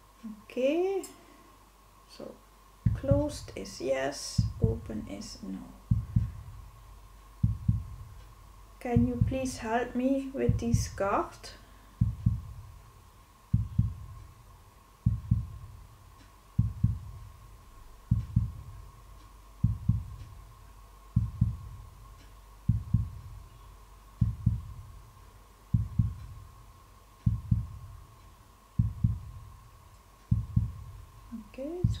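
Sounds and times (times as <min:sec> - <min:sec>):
heartbeat thumps: 0:02.7 - 0:03.5, 0:04.2 - 0:32.0.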